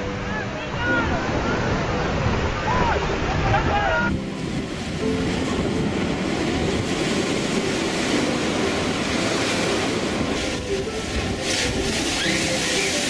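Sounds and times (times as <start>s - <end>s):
waves crashing against sea wall: 0.7s - 13.0s.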